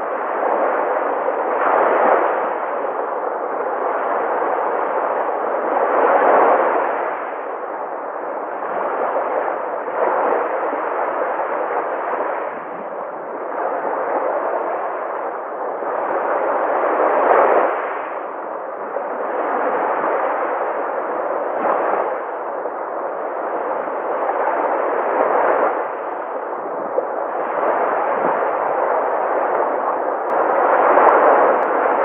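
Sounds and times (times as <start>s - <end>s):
sea waves washing on shore: 0.0s - 32.0s.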